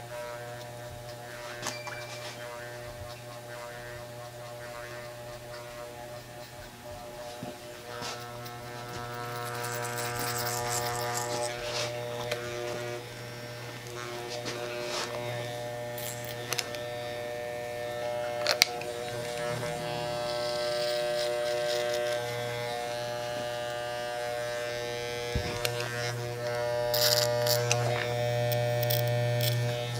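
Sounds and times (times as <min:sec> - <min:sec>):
electric hair clipper buzzing: 0:00.0 - 0:29.9.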